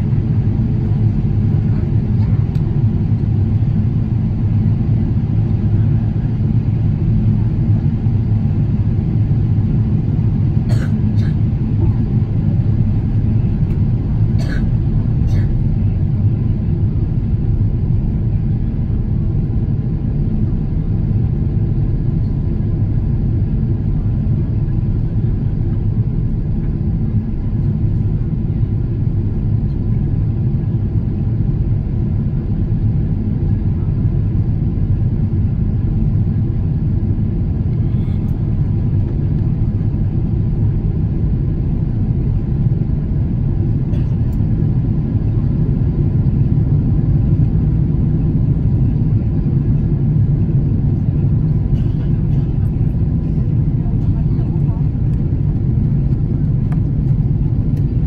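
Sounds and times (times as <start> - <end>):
jet cabin engine rumble: 0.0 - 58.0.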